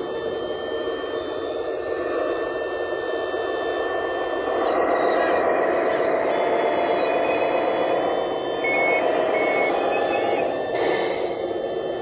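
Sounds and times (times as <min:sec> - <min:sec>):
high reversing beeps: 0:00.0 - 0:12.0
toy engine sound: 0:00.0 - 0:12.0.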